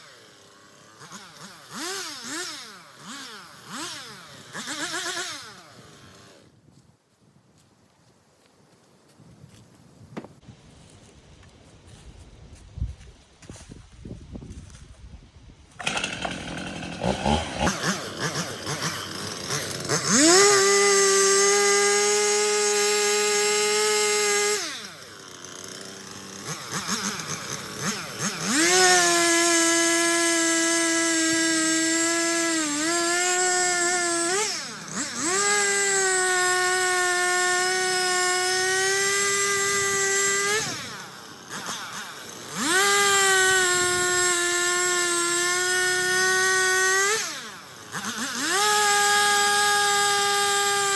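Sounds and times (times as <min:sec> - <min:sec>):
chainsaw revving and cutting: 0:00.0 - 0:06.5, 0:15.7 - 0:50.9.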